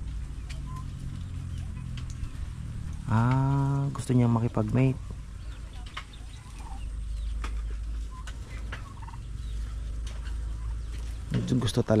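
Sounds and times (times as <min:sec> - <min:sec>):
steady low rumble: 0:00.0 - 0:12.0
turkey calls: 0:00.0 - 0:12.0.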